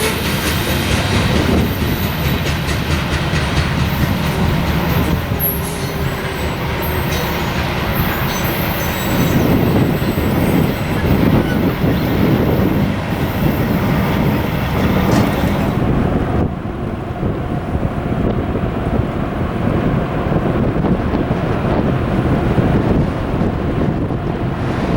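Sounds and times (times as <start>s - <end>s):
train rumbling past on rails: 0.0s - 24.9s.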